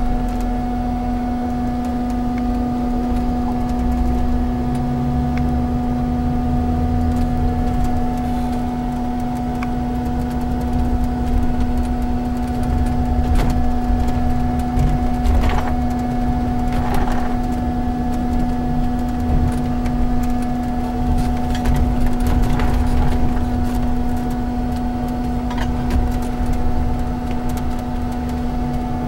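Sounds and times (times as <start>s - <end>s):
bus engine and road drone: 0.0s - 29.0s.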